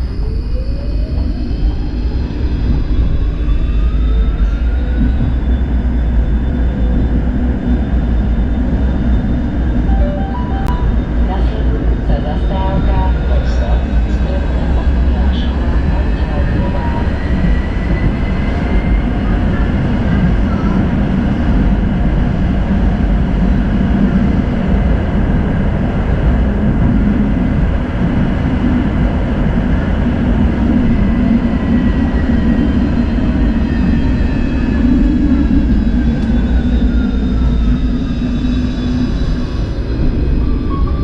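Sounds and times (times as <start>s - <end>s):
tram wheels rumbling on rails: 0.0s - 41.0s.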